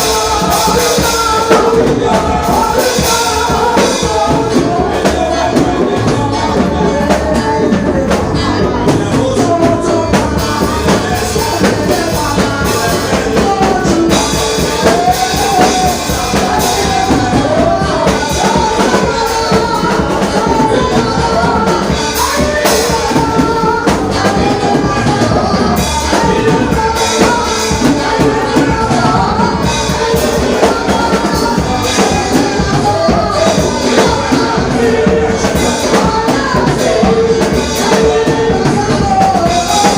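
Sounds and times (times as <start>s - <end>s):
band with drum kit: 0.0s - 39.9s
voices singing: 0.0s - 39.9s.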